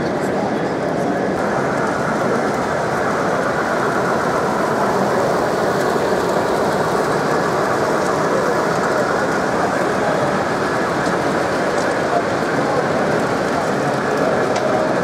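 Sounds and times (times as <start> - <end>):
crowd hubbub: 0.0 - 15.0.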